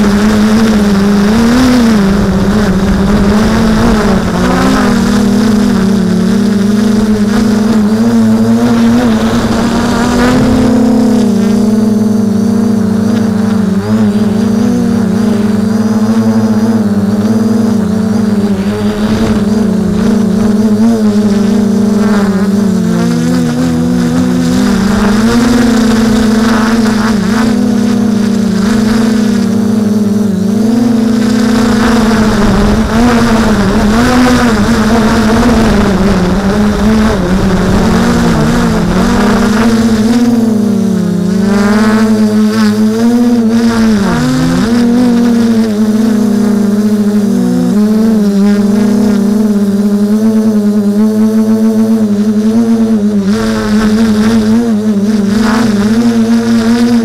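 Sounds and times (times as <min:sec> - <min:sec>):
drone propellers humming: 0:00.0 - 0:57.0.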